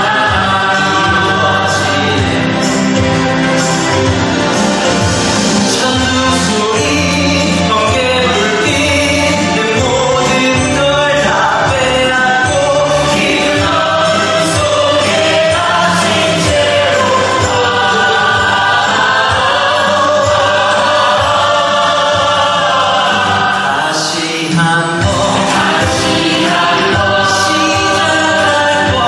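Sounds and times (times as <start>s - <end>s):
male singer and choir: 0.0s - 3.8s, 5.6s - 29.0s
instrumental accompaniment: 0.0s - 29.0s.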